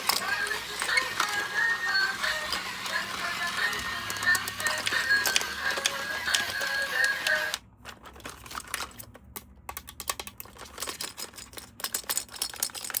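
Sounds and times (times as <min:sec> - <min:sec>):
plastic toys clicking and tapping: 0:00.0 - 0:13.0.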